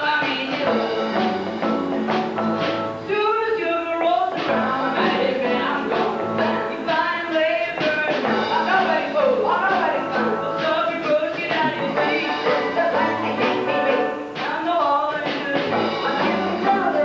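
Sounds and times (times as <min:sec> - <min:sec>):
person singing: 0:00.0 - 0:02.3, 0:03.0 - 0:17.0
drums steady beat: 0:00.0 - 0:03.2, 0:04.1 - 0:17.0
rock and roll band playing: 0:00.0 - 0:17.0.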